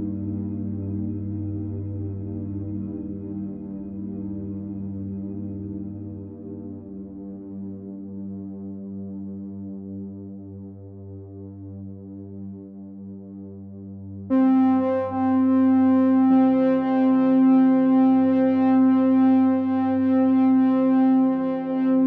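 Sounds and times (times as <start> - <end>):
synthesizer music with held chords: 0.0 - 22.0.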